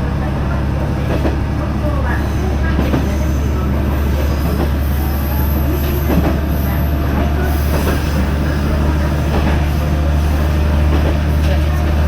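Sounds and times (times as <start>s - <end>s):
railcar engine drone: 0.0s - 12.0s
wheels rattling on rails: 0.0s - 12.0s.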